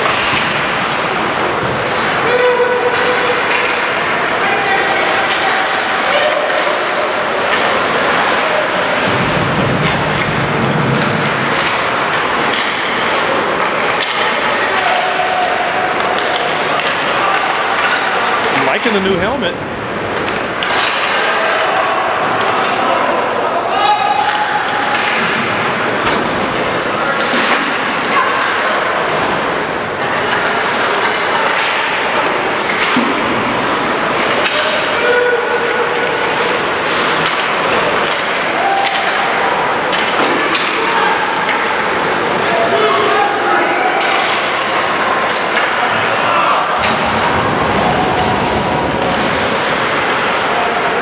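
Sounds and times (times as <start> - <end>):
arena noise: 0.0 - 51.0
hockey sticks and puck clacking: 0.0 - 51.0
skates scraping ice: 0.0 - 51.0
spectator noise: 0.0 - 51.0.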